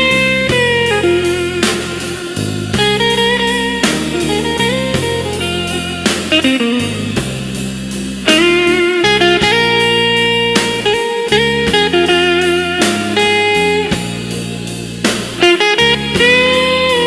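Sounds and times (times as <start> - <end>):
bass: 0.0 - 17.0
drums: 0.0 - 17.0
slow blues on electric guitar: 0.0 - 17.0.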